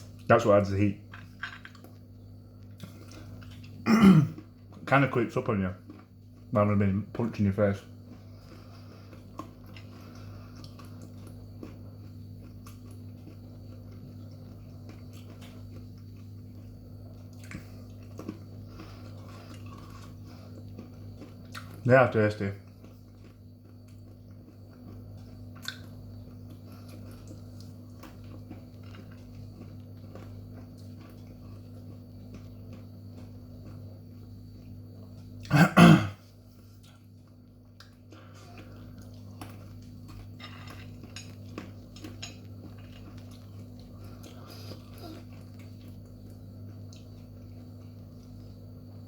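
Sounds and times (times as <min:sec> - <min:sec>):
steady low hum: 0:00.0 - 0:49.0
person chewing crunchy peanuts: 0:01.2 - 0:06.8, 0:07.8 - 0:35.6, 0:36.2 - 0:49.0.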